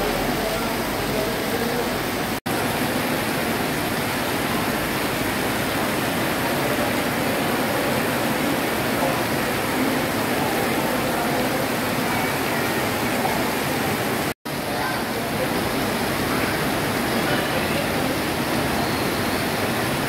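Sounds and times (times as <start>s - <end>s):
heavy rain on pavement: 0.0s - 20.0s.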